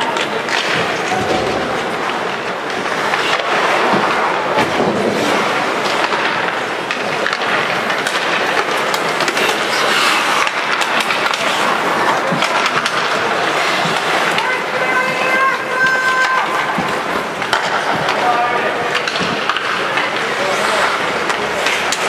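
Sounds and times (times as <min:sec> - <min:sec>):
hockey sticks and puck clacking: 0:00.0 - 0:22.0
skates scraping on ice: 0:00.0 - 0:22.0.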